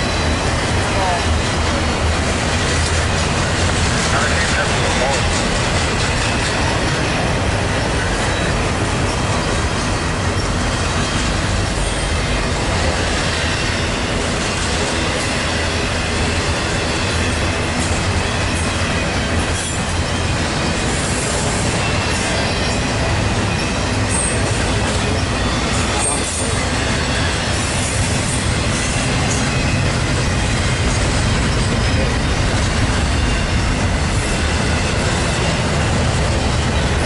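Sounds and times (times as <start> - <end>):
train wheels rolling on rails: 0.0 - 37.0.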